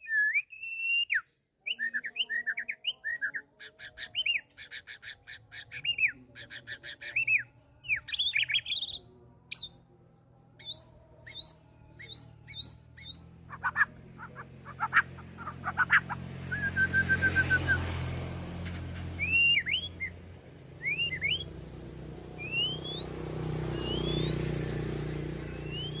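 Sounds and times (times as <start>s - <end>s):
bird singing varied song: 0.0s - 26.0s.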